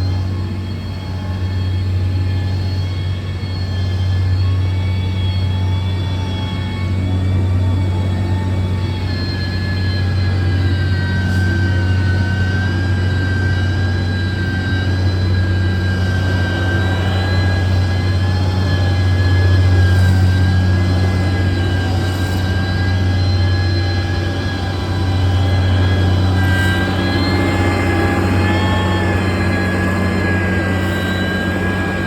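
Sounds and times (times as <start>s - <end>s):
diesel engine drone with whine: 0.0s - 32.0s.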